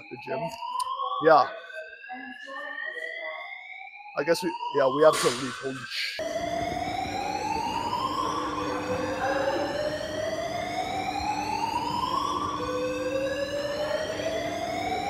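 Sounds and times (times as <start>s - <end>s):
fire alarm whoop: 0.0s - 15.0s.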